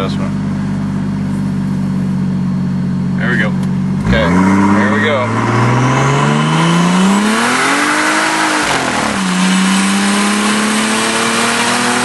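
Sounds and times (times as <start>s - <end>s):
turbocharged engine at full throttle: 0.0s - 12.0s.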